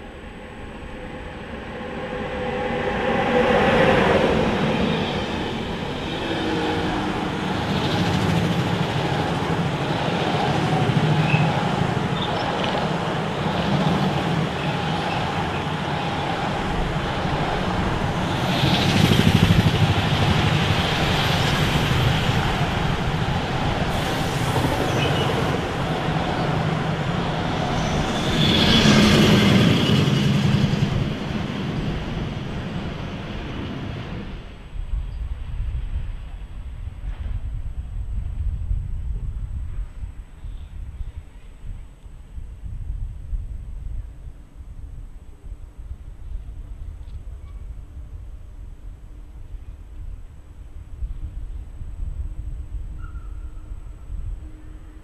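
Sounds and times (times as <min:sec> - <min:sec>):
freight train rolling past: 0:00.0 - 0:44.8.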